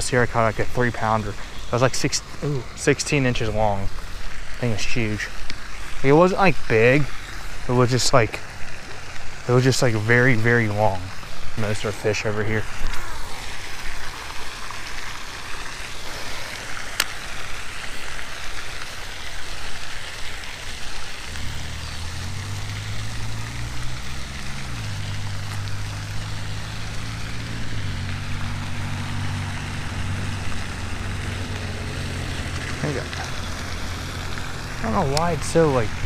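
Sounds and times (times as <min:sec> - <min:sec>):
fountain water splashing: 0:00.0 - 0:36.0.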